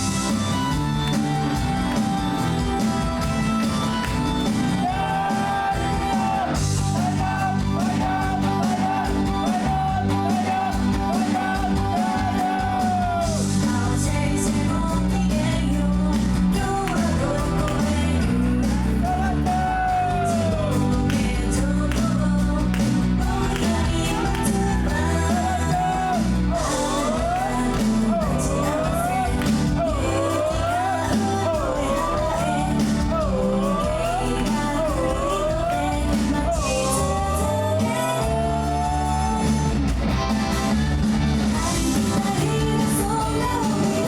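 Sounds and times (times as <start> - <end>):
live pop-rock music: 0.0 - 44.0
woman singing: 3.9 - 39.8, 40.6 - 44.0.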